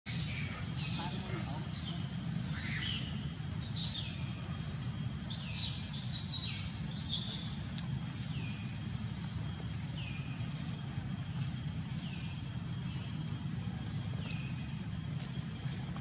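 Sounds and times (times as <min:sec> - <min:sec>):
steady low rumble: 0:00.1 - 0:16.0.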